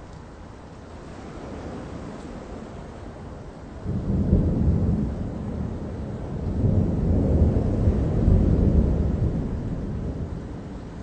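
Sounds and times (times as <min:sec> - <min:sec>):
rolling thunder: 0:01.5 - 0:11.0.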